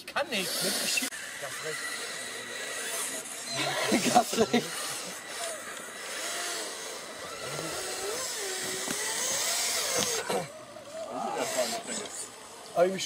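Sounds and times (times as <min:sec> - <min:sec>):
toy truck motor whining: 0:00.2 - 0:13.0.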